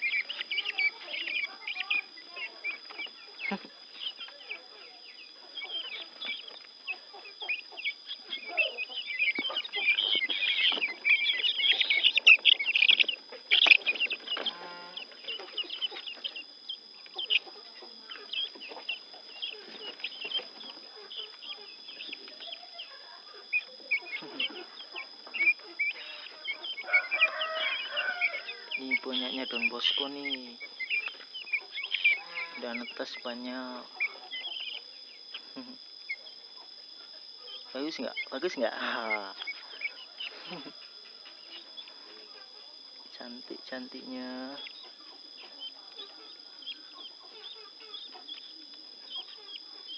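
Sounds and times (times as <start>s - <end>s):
guinea fowl chicks chirping: 0.0s - 49.9s.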